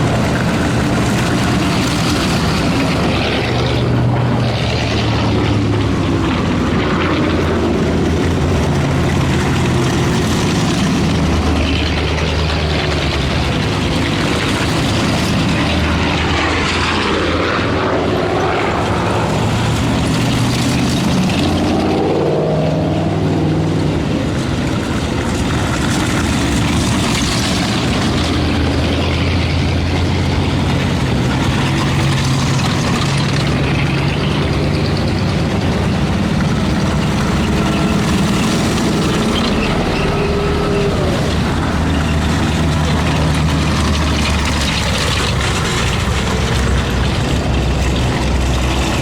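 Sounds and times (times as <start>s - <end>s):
steel tracks on gravel: 0.0s - 49.0s
vehicle engines droning: 0.0s - 49.0s.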